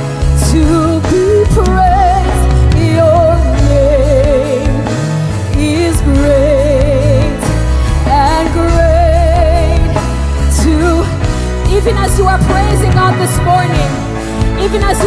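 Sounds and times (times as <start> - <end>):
bass: 0.0 - 15.0
keyboard chords: 0.0 - 15.0.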